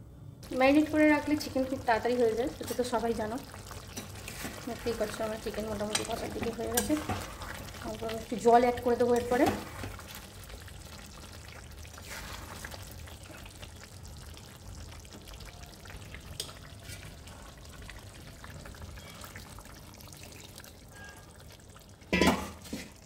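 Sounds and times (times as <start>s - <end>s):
curry sizzling in a pan: 0.4s - 23.0s
water being poured: 0.4s - 23.0s.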